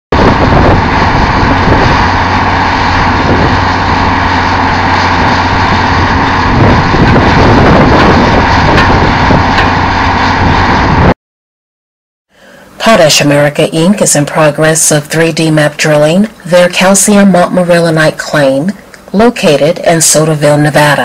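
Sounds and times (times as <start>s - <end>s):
drill rig engine drone: 0.1s - 11.2s, 12.4s - 21.0s.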